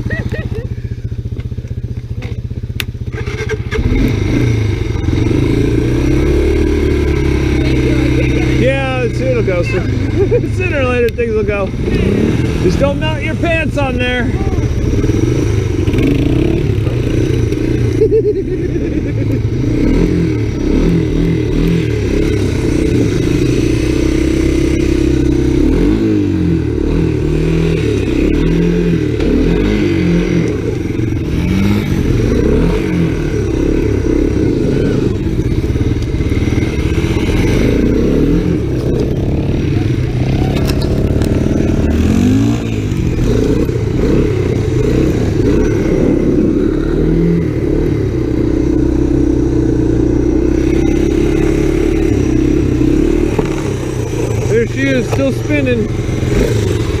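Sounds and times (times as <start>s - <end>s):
engine revving: 2.8s - 57.0s.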